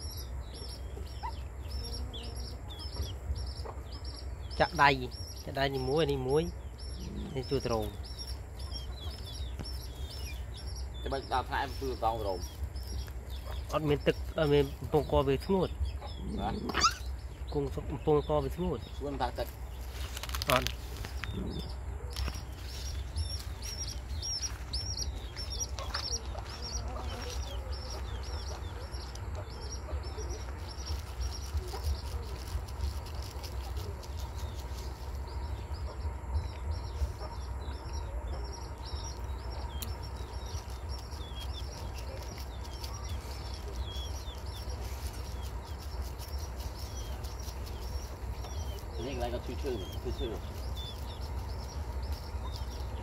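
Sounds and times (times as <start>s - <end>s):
bird chirping: 0.0s - 53.0s
low steady rumble: 0.0s - 53.0s.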